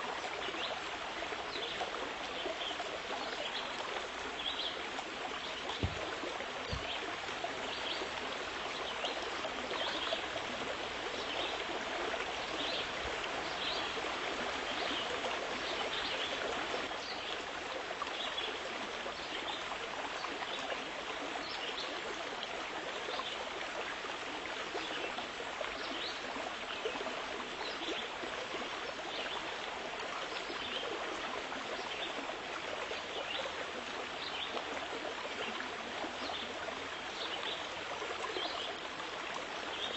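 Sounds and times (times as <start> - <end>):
flowing water rushing: 0.0 - 39.9
small water splashes: 0.0 - 39.9.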